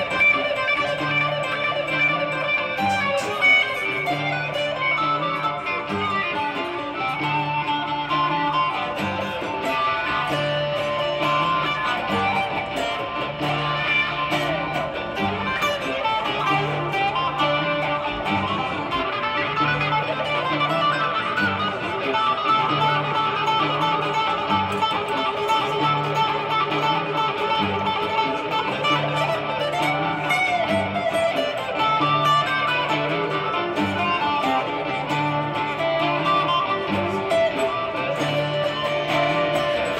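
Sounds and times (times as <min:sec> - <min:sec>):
acoustic guitar picking: 0:00.0 - 0:39.9.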